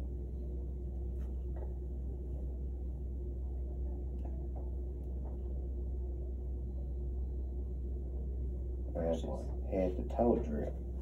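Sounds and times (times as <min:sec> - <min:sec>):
faint steady tone: 0:00.0 - 0:11.0
ventilation hum: 0:00.0 - 0:11.0.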